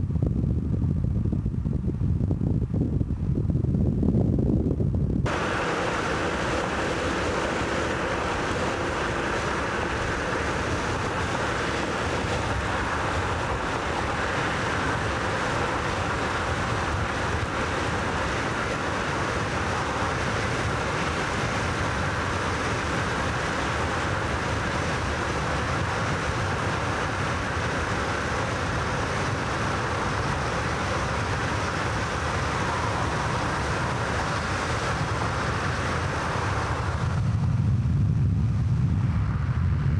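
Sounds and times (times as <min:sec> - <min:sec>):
car wind and road noise: 0:00.0 - 0:39.9.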